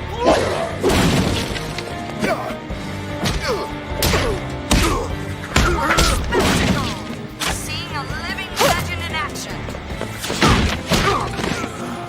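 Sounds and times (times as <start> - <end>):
dramatic background music: 0.0 - 12.0.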